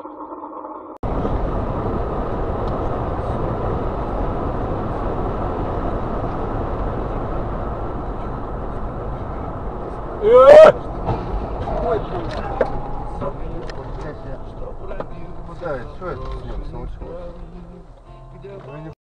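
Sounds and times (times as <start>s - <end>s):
car road and engine noise: 1.0s - 19.0s.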